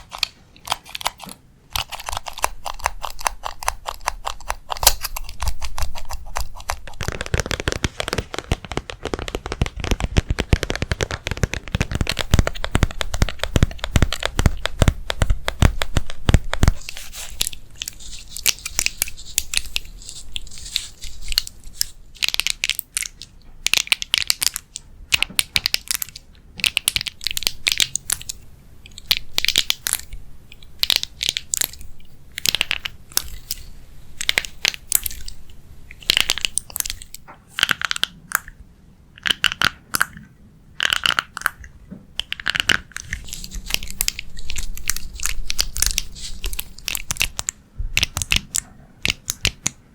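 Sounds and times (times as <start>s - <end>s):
crackling and crinkling: 0.0s - 49.9s.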